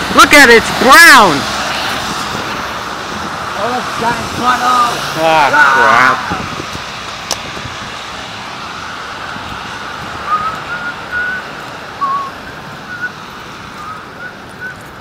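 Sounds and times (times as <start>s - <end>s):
rain and wind: 0.0s - 15.0s.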